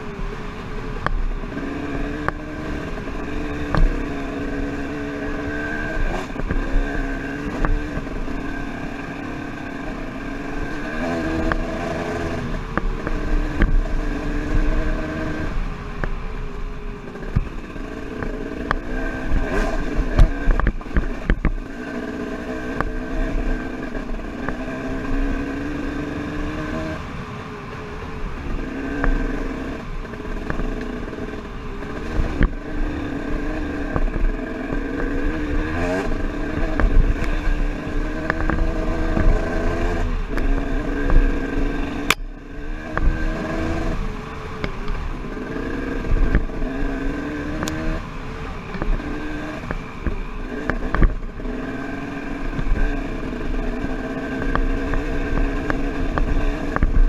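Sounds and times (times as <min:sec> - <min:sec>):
dirt bike engine revving: 0:00.0 - 0:16.0, 0:17.0 - 0:27.2, 0:28.4 - 0:57.0.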